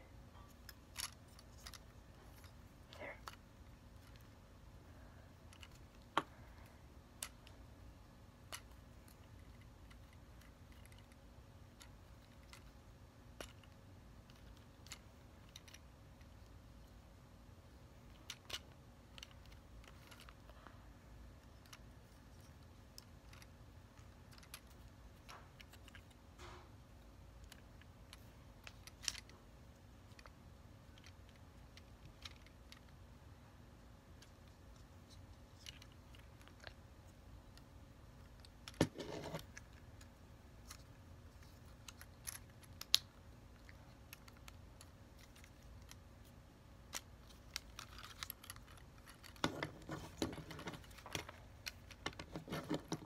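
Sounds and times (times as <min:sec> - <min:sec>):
plastic toy parts clicking: 0:00.6 - 0:04.3, 0:08.4 - 0:12.7, 0:13.3 - 0:16.5, 0:18.1 - 0:20.5, 0:21.4 - 0:26.6, 0:27.4 - 0:29.4, 0:30.0 - 0:33.0, 0:34.2 - 0:53.0.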